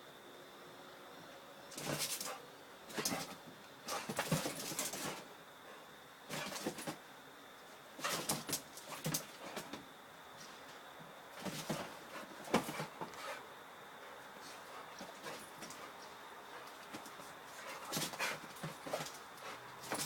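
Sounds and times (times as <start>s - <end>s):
dogs scuffling and play-fighting: 1.7s - 5.3s, 6.3s - 7.0s, 7.9s - 20.0s.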